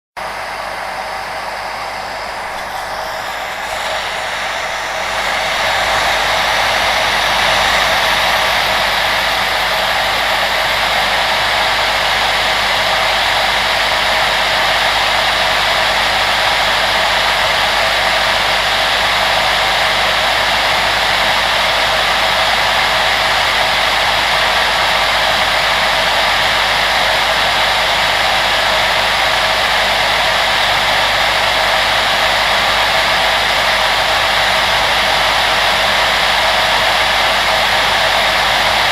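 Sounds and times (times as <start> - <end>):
electric blower rushing: 0.2 - 38.9.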